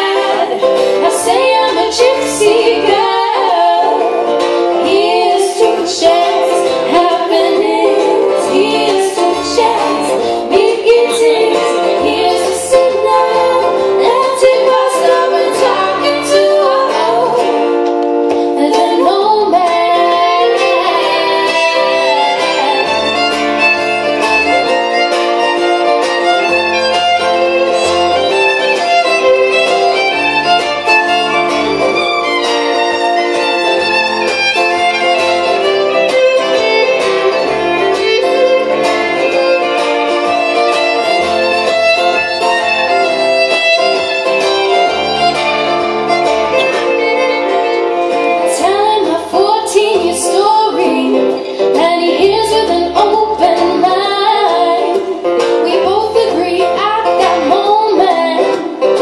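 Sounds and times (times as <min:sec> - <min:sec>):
fiddle melody: 0:00.0 - 0:59.0
strummed acoustic guitar: 0:00.0 - 0:59.0.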